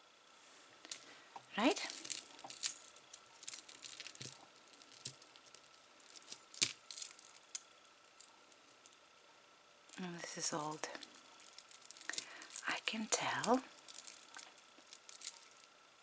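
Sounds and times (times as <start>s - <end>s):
metal jewelry clinking: 0.8s - 9.2s, 9.9s - 15.9s.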